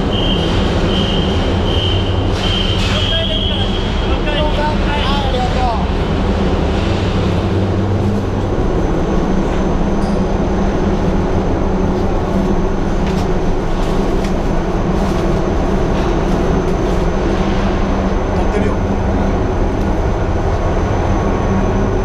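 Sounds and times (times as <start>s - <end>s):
ferry engines droning: 0.0s - 22.0s.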